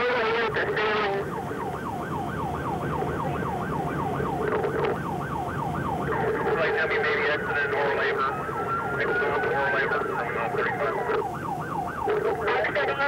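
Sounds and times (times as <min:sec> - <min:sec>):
police siren yelping: 0:00.0 - 0:13.0.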